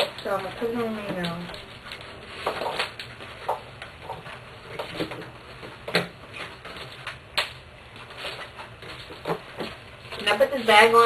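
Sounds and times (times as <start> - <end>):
fabric and plastic rustling: 0.0 - 11.0.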